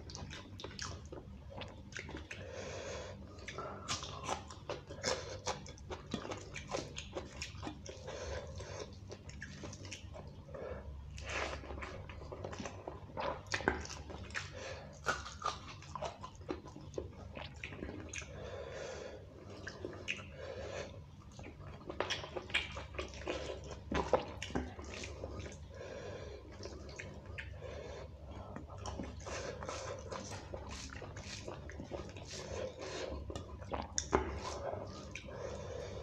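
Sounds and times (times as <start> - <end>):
chewing: 0.0 - 18.6, 19.3 - 36.0.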